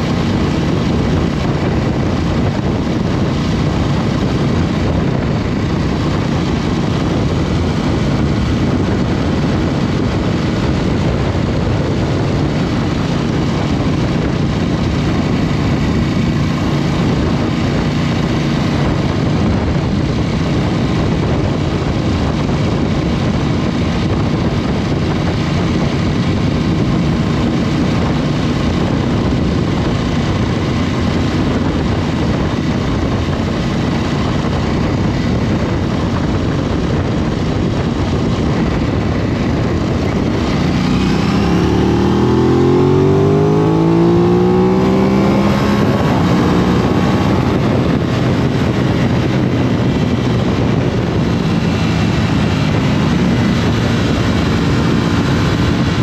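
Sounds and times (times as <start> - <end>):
motorcycle engine running: 0.0 - 56.0
steady rush of noise: 0.0 - 56.0.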